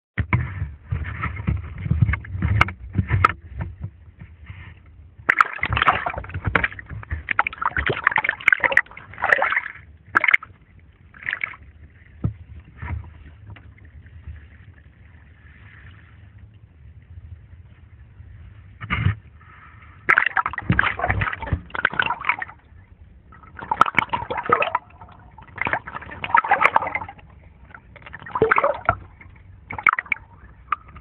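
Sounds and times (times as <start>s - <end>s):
water splashing against camera: 0.2s - 31.0s.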